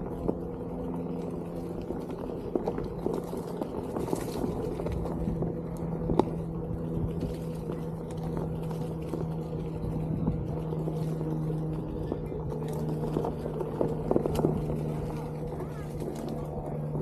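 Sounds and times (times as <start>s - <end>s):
hub motor humming: 0.0s - 17.0s
tyre rumbling on trail: 0.0s - 17.0s.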